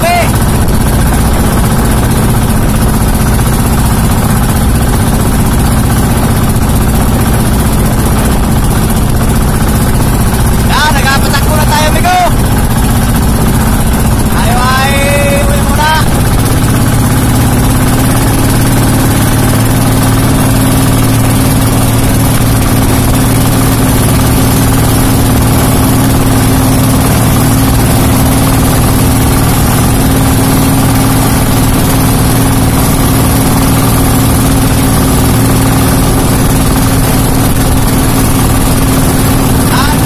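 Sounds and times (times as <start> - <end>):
boat engine droning: 0.0 - 40.0
wind and sea rushing: 0.0 - 40.0.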